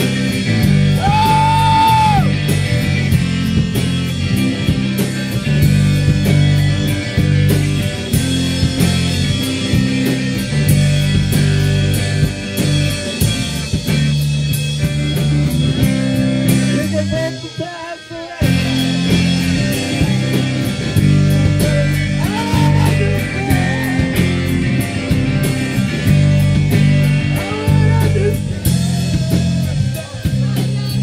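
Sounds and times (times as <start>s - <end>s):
rock band playing loud: 0.0s - 31.0s.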